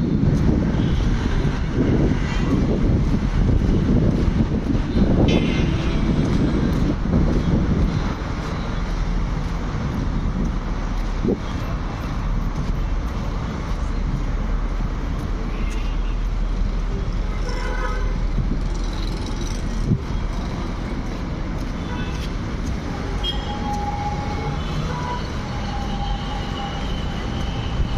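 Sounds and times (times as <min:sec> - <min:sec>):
road traffic passing cars: 0:00.0 - 0:27.9.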